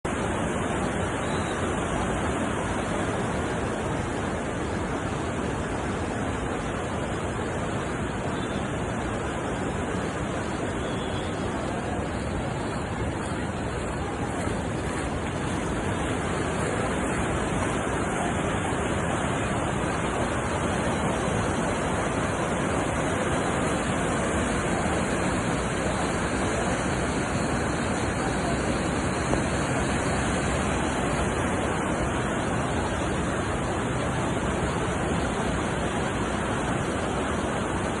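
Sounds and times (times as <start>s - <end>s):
floodwater rushing: 0.0s - 38.0s.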